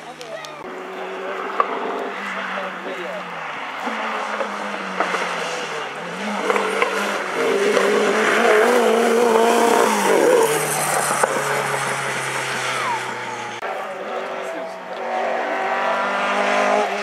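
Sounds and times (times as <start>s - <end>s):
rally car engine passing by: 0.6s - 17.0s.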